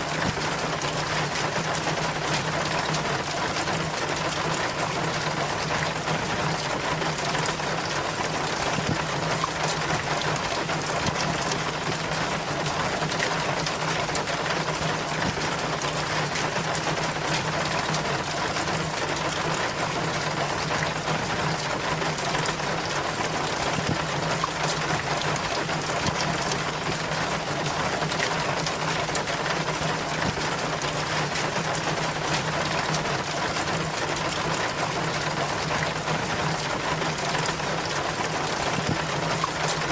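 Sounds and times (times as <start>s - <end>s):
rain water trickling down a chain: 0.0s - 39.9s.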